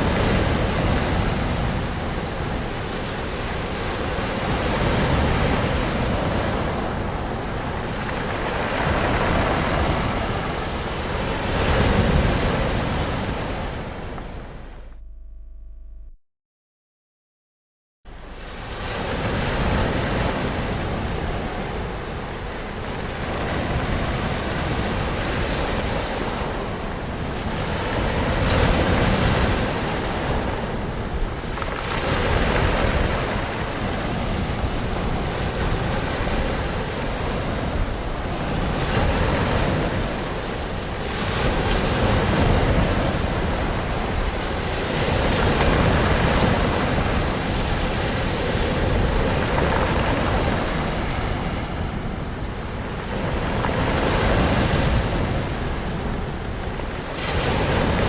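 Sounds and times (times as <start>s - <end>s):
ocean waves breaking: 0.0s - 15.0s, 18.1s - 58.0s.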